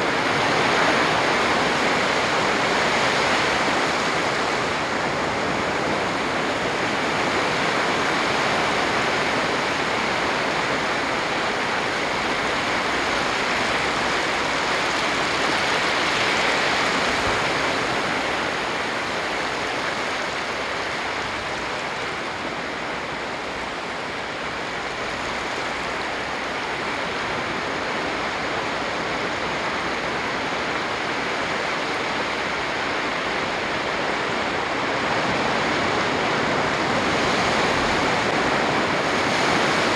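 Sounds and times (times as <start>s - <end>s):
sea surf washing onto beach: 0.0s - 39.9s.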